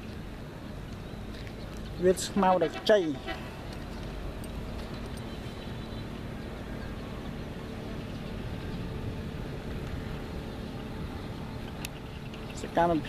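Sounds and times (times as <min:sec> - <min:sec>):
vehicle engine hum and road noise: 0:00.0 - 0:13.0.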